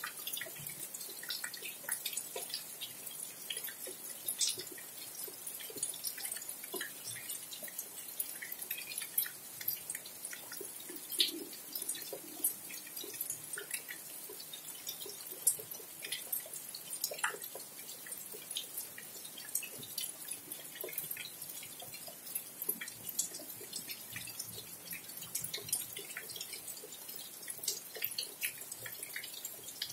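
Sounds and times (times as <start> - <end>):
drops tapping and dripping: 0.0 - 29.9
rain falling: 0.0 - 29.9.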